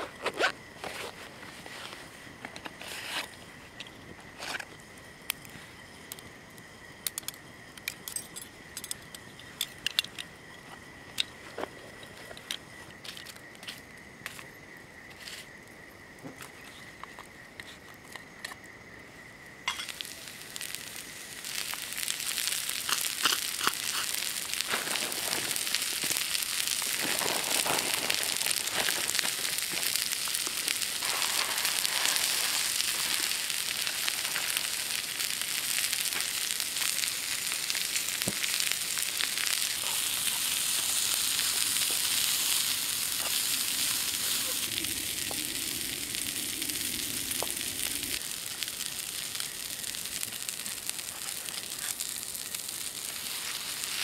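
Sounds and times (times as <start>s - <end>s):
insect trill: 0.0s - 54.0s
vegetables sizzling in oil: 10.2s - 54.0s.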